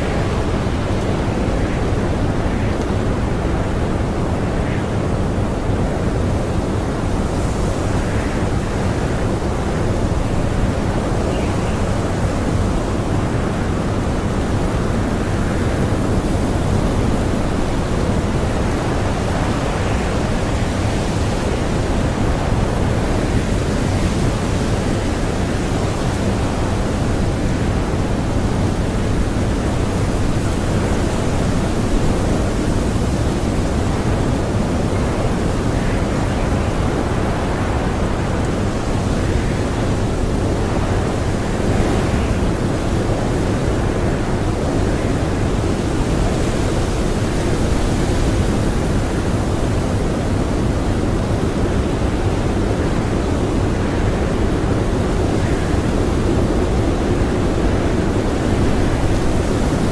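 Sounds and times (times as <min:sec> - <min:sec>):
howling blizzard wind: 0:00.0 - 0:59.9.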